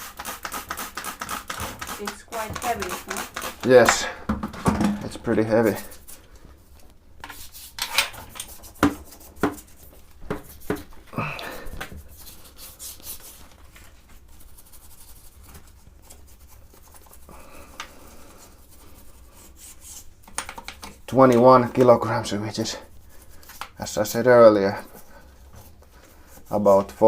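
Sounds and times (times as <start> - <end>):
rubbing and scrubbing: 0.0 - 4.2, 5.0 - 27.0.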